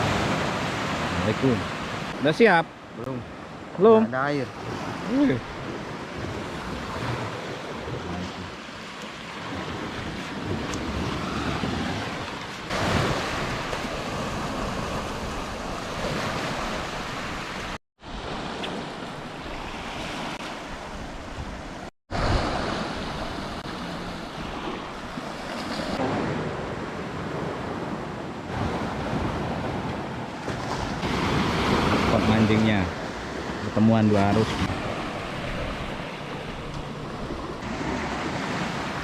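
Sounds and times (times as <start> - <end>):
waves washing onto beach: 0.0 - 39.0.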